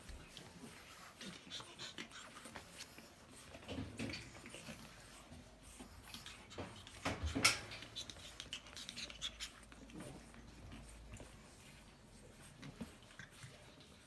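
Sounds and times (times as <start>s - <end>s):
puppy paws scratching and tapping: 0.0s - 14.0s.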